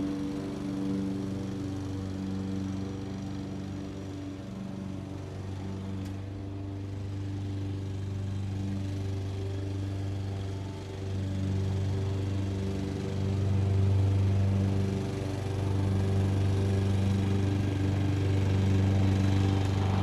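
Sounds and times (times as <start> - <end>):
distant lawn mower engine: 0.0 - 20.0.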